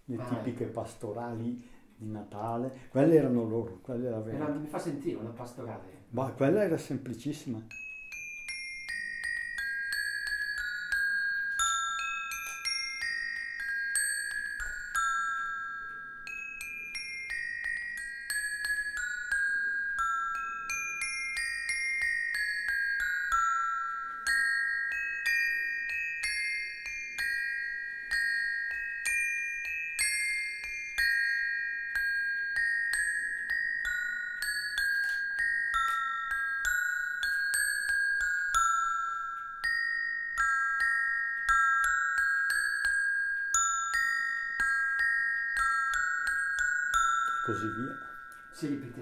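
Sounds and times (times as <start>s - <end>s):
metal bars ringing melody: 7.2s - 49.0s.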